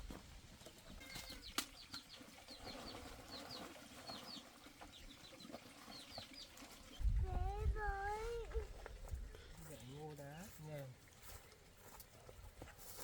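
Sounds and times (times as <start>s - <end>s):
small birds chirping: 0.6s - 12.5s.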